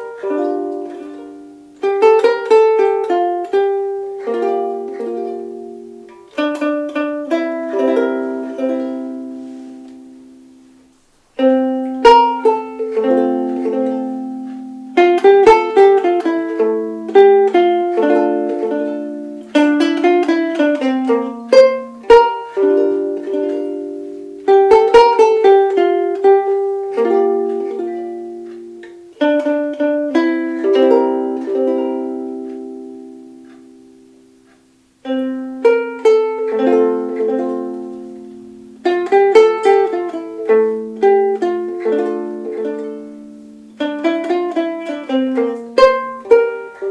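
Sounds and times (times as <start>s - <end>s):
ukulele playing: 0.0s - 46.9s.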